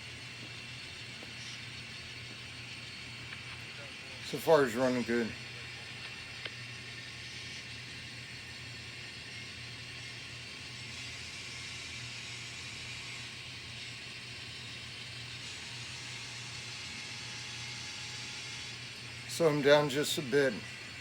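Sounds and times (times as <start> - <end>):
model train humming: 0.0 - 21.0.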